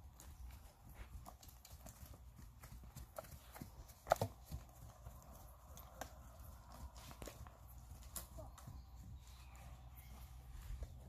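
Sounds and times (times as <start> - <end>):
hoofbeats on sand: 0.0 - 11.0.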